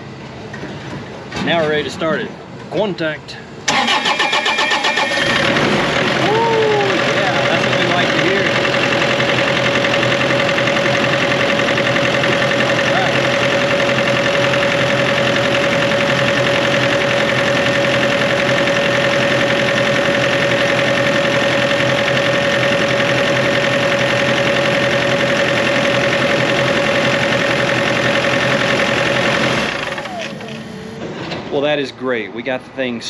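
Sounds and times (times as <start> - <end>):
steady whine: 0.0 - 33.0
diesel engine running: 3.5 - 31.5.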